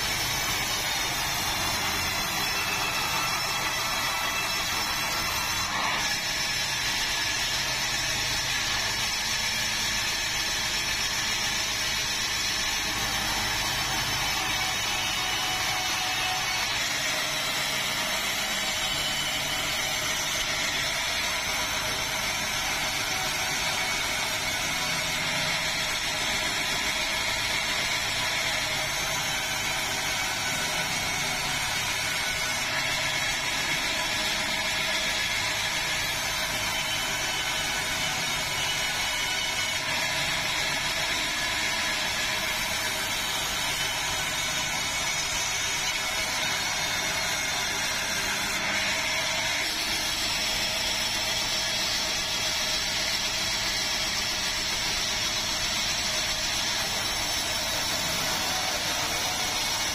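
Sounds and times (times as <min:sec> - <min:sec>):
band saw cutting timber: 0:00.0 - 0:59.9.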